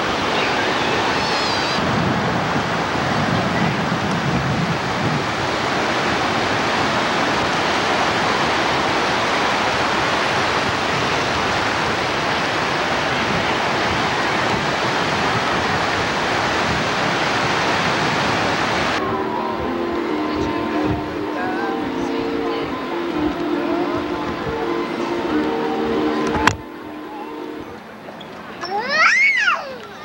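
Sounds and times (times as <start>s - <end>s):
ocean surf breaking: 0.0s - 29.8s.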